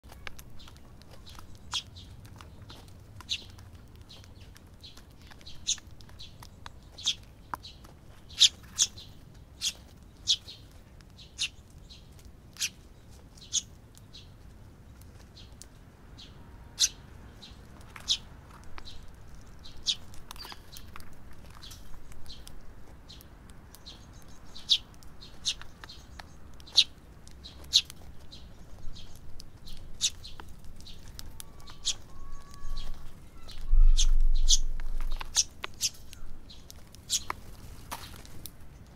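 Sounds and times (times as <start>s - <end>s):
sparrow chirps: 0.1s - 14.4s, 15.0s - 37.4s.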